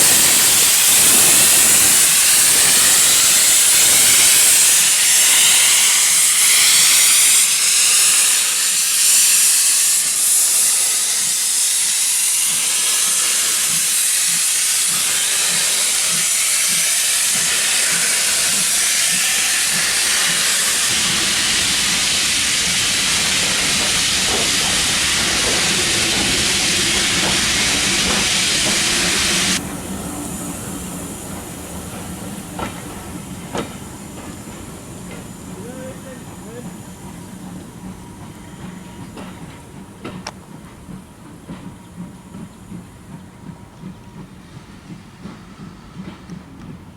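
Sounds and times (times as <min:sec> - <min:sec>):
steam hissing: 0:00.0 - 0:46.9.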